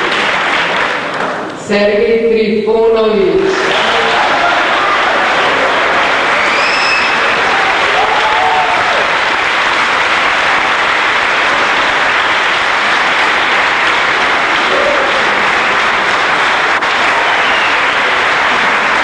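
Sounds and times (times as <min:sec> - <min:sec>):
audience applauding: 0:00.0 - 0:01.6, 0:03.4 - 0:19.0.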